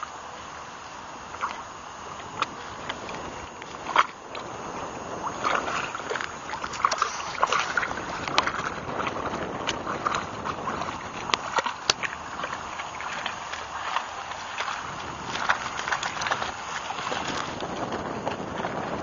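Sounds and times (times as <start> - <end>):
wolf lapping water: 0.0 - 19.0.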